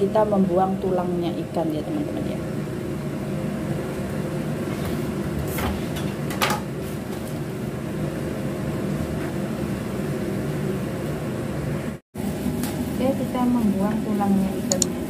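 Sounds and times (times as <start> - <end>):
low kitchen hum and rumble: 0.0 - 15.0.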